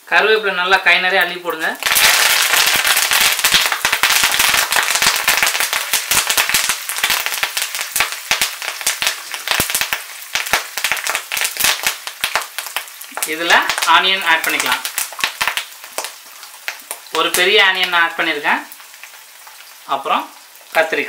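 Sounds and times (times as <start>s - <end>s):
leaves spluttering in hot oil: 0.1s - 21.0s.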